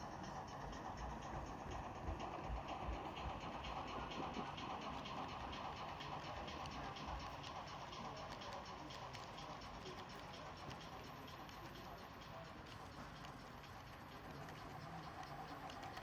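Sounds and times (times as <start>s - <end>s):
model steam locomotive ticking: 0.0s - 16.0s.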